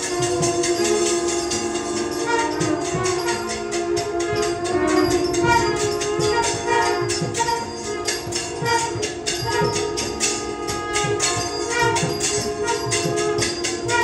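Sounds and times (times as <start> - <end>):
jingling percussion: 0.0 - 14.0
steady held tones: 0.0 - 14.0.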